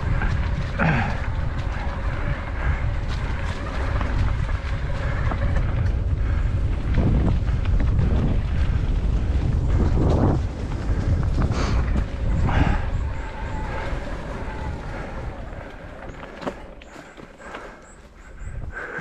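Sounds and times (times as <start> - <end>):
bike rolling on a trail: 0.0 - 19.0
wind buffeting the microphone: 0.0 - 19.0.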